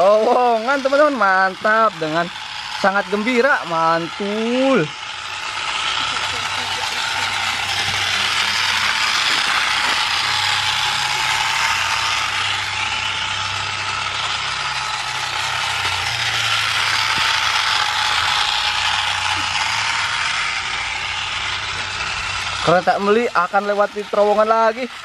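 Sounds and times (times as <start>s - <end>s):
thin motor whine: 0.0s - 25.0s
toy train motors whirring: 0.0s - 25.0s.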